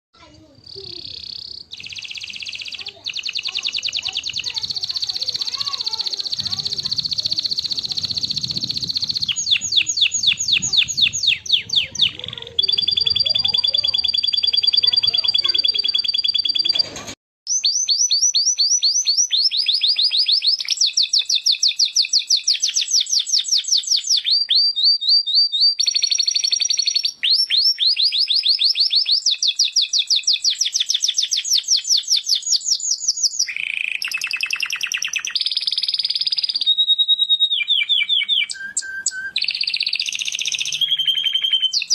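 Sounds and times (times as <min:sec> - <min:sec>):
canary singing: 0:00.2 - 0:41.9.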